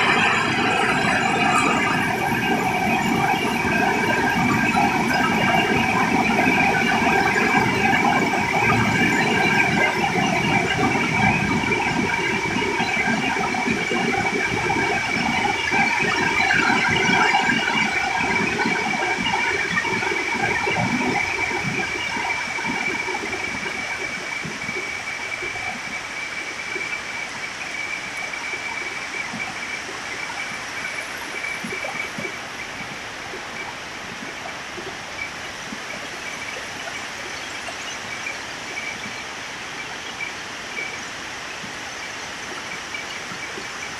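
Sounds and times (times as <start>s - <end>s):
heavy rain pouring: 0.0s - 36.6s.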